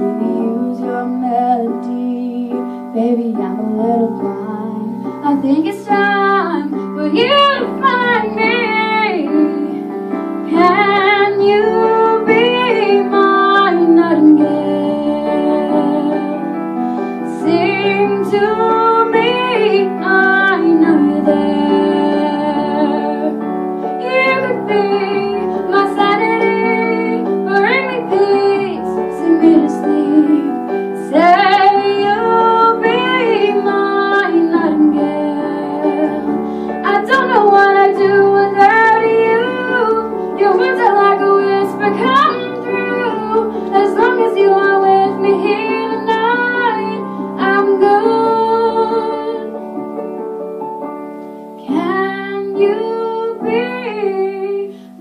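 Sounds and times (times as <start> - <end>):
woman singing: 0.0 - 49.8, 51.6 - 55.0
piano accompaniment: 0.0 - 55.0.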